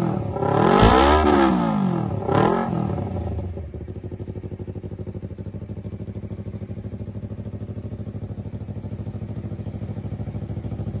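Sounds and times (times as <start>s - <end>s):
motorcycle engine idling: 1.7s - 11.0s.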